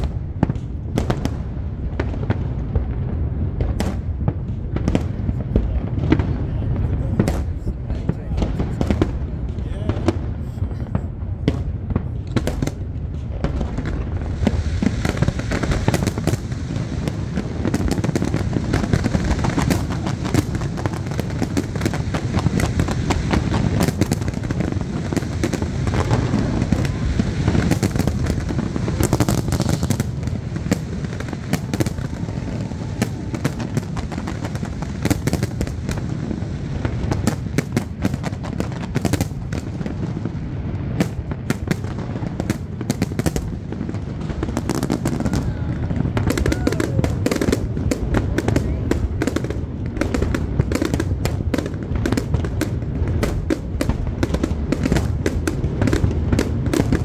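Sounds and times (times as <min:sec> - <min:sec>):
continuous low rumble: 0:00.0 - 0:57.0
fireworks bursting: 0:00.0 - 0:57.0
fireworks crackle: 0:00.0 - 0:57.0.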